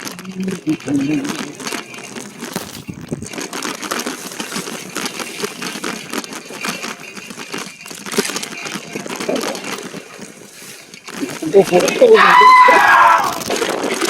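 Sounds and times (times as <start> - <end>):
bike parts rattling: 0.0 - 14.0
tyres crunching on dirt: 0.0 - 14.0.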